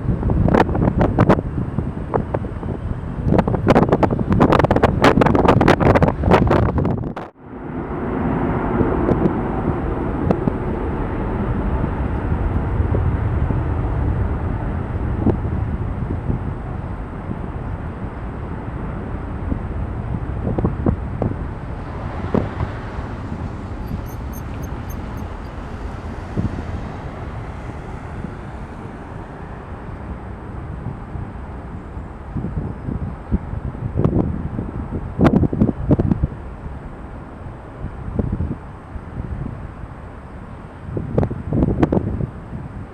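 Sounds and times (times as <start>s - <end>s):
jet engines roaring at takeoff: 0.2s - 35.2s.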